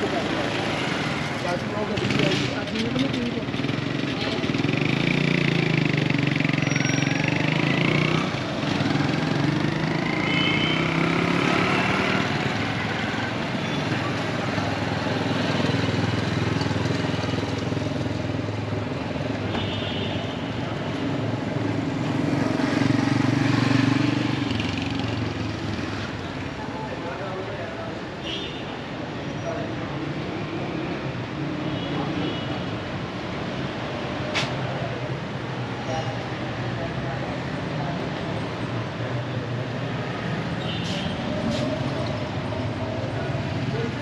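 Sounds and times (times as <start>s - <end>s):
motor vehicles passing: 0.0s - 19.7s, 20.5s - 28.1s, 29.0s - 44.0s.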